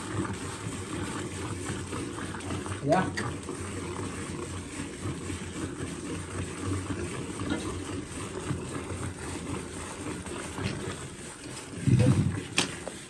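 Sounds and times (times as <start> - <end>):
milk jets hissing into bucket: 0.0 - 13.0.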